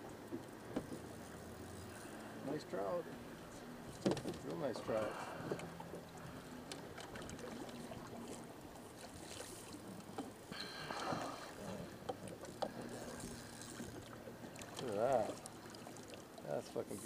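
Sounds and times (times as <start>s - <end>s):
water sounds: 0.0s - 17.0s.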